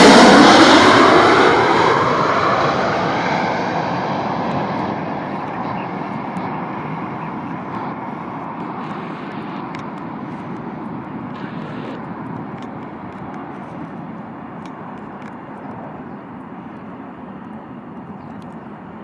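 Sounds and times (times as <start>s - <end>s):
jet airliner engine rumble: 0.0s - 19.0s.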